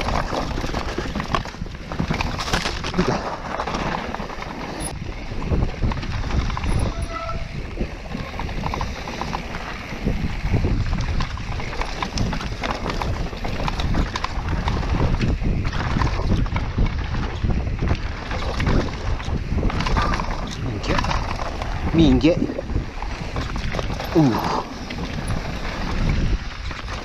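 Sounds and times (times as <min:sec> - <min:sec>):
bike frame and chain rattling: 0:00.0 - 0:27.0
bike tyres over stones and roots: 0:00.0 - 0:27.0
wind rumble on microphone: 0:00.0 - 0:27.0.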